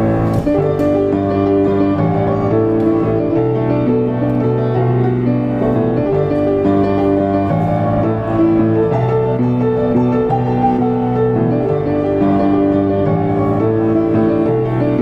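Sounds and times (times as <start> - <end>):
grand piano playing chords: 0.0 - 15.0.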